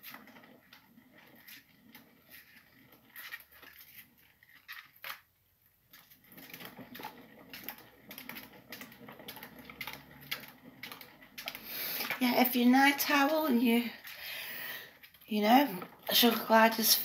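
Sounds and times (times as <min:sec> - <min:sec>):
plastic exercise wheel rattling: 0:00.0 - 0:05.3, 0:05.9 - 0:17.0.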